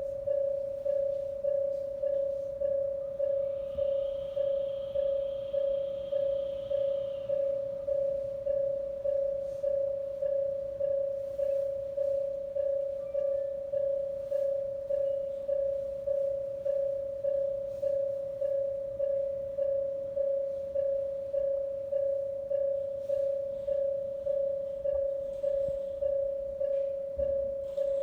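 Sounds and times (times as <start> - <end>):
level crossing alarm bell: 0.0 - 28.0.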